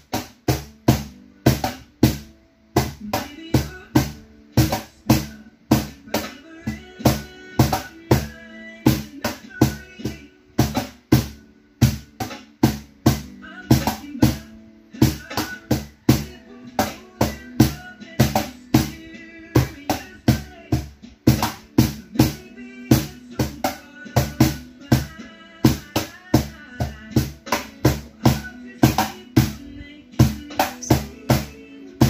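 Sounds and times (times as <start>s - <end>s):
cajon hand drumming: 0.0s - 32.0s.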